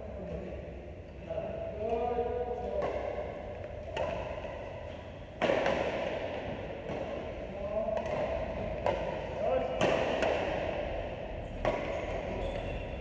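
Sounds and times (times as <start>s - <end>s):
rackets striking a shuttlecock: 1.8s - 12.4s.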